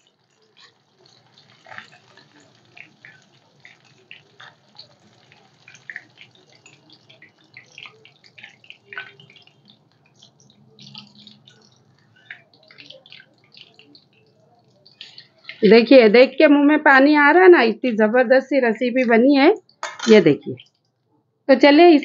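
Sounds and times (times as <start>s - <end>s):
hot oil sizzling and popping: 0.0s - 21.1s.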